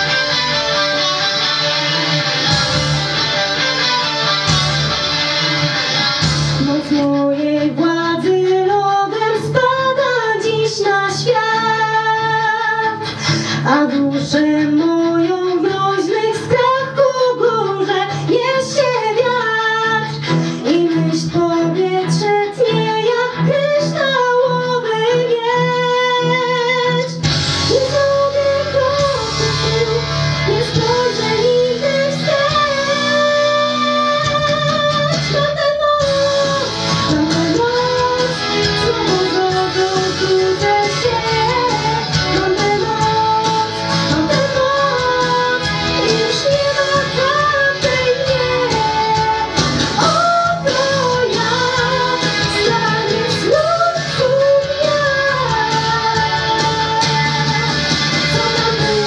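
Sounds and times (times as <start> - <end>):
instrumental accompaniment: 0.0 - 59.0
woman singing: 6.5 - 59.0.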